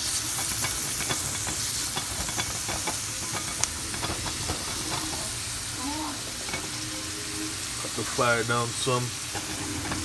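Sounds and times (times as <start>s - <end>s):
onion and garlic sizzling in oil: 0.0s - 10.0s.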